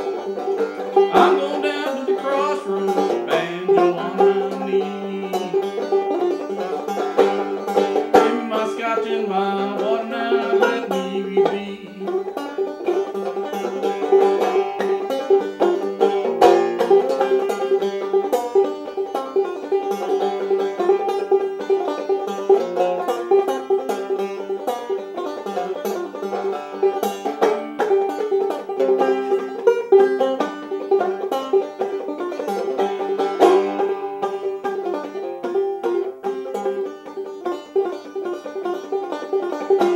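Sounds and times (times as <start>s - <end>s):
banjo playing: 0.0s - 39.9s.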